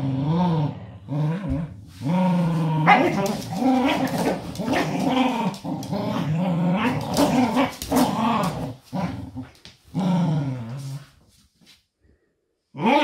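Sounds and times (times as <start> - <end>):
dogs play-growling: 0.0 - 11.2.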